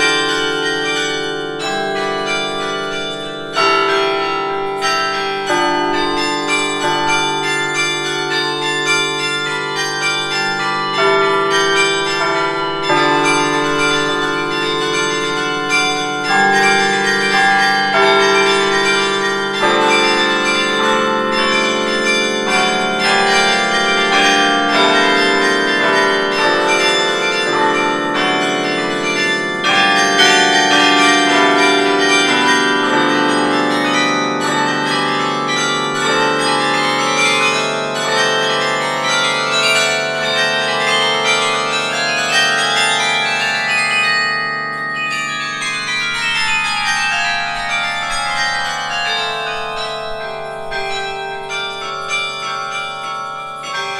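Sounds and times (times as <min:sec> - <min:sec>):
carillon bell melody: 0:00.0 - 0:53.9
low bells sustaining: 0:00.0 - 0:53.9.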